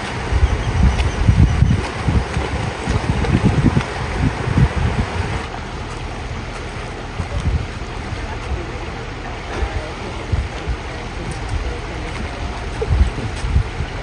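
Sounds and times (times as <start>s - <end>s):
river water pouring: 0.0s - 14.0s
wind buffeting microphone: 0.0s - 14.0s.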